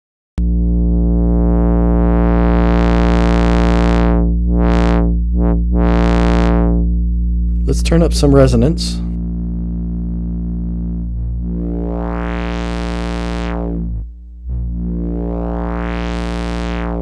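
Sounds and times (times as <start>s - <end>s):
filtered synth buzz: 0.4s - 17.0s.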